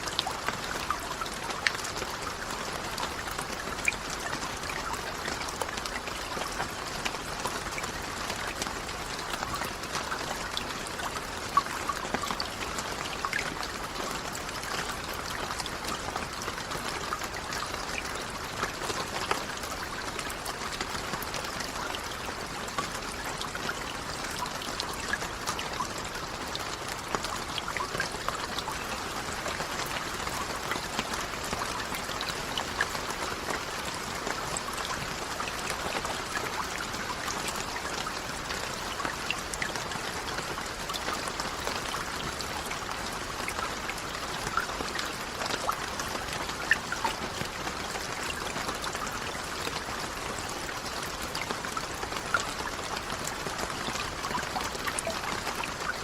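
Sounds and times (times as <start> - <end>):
steady rain with drop impacts: 0.0 - 56.0.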